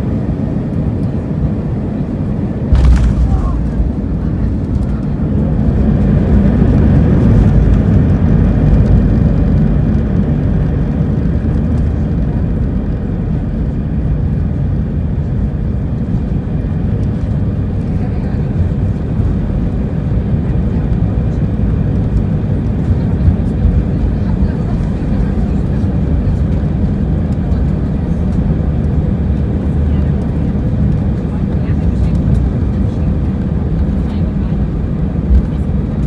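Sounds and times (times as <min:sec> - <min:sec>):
jet engine and airflow rumble: 0:00.0 - 0:36.0.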